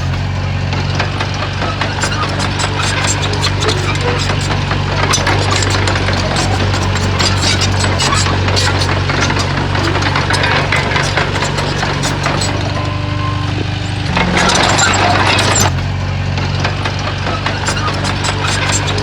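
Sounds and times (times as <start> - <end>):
bulldozer diesel engine running: 0.0 - 19.0
machine clanks and rattles: 0.0 - 19.0.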